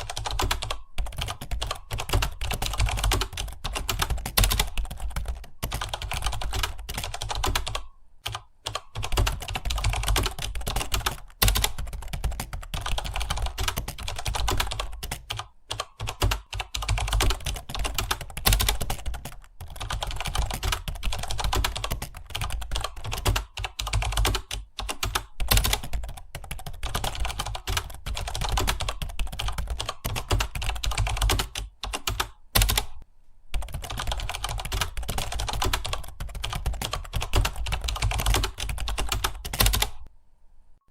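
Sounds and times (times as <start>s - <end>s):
fast typing on keyboard: 0.0s - 33.0s, 33.6s - 40.1s.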